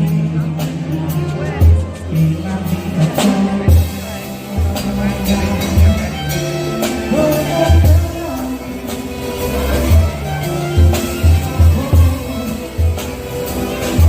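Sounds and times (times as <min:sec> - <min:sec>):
band playing: 0:00.0 - 0:14.0
walking bass line: 0:00.0 - 0:14.0.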